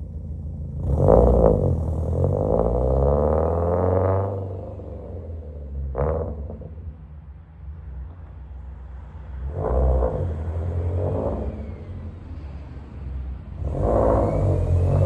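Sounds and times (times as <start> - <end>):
car engine pulling away: 0.0 - 6.8, 9.3 - 15.0.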